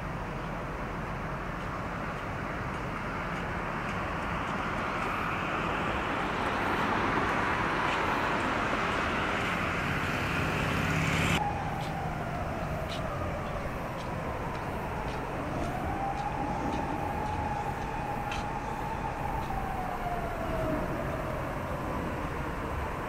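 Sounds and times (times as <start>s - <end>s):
quiet vehicle hum: 0.0s - 23.0s
road traffic passing: 0.0s - 23.0s.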